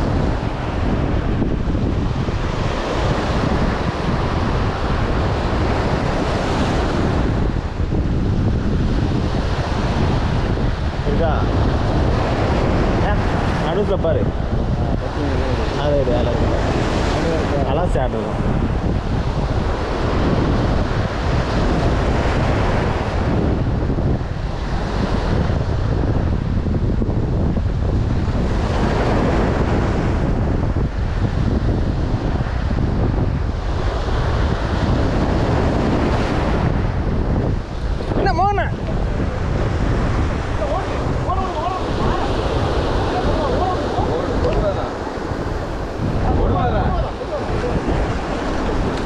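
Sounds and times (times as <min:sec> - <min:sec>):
sea surf: 0:00.0 - 0:49.0
wind buffeting microphone: 0:00.0 - 0:49.0.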